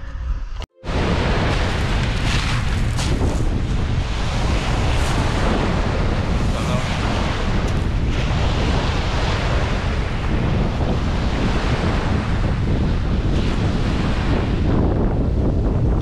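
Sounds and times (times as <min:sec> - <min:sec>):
wind buffeting microphone: 0:00.8 - 0:16.0
waves breaking on pebble beach: 0:00.9 - 0:15.0.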